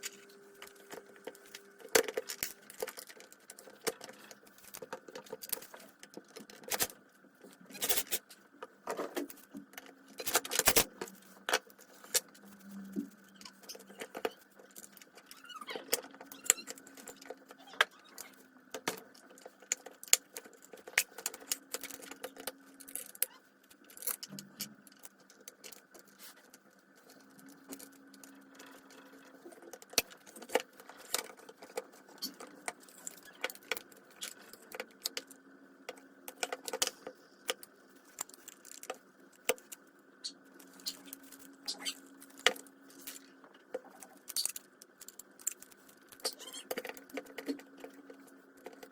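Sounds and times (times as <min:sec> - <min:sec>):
faint hum: 0:00.0 - 0:48.9.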